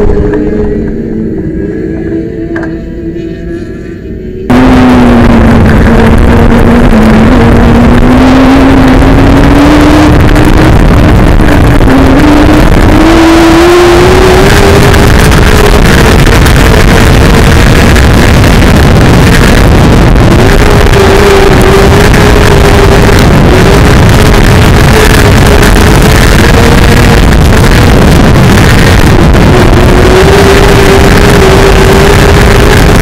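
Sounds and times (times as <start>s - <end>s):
race car engine distorted: 0.0s - 33.0s.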